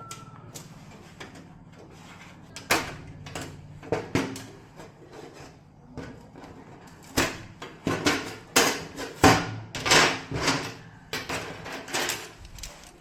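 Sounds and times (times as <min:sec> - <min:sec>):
hard objects clattering: 0:00.0 - 0:13.0.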